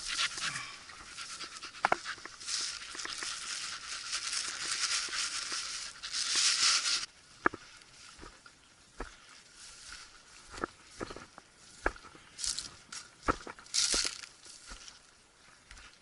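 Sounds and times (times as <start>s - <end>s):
footsteps through dry grass: 0.0s - 16.0s.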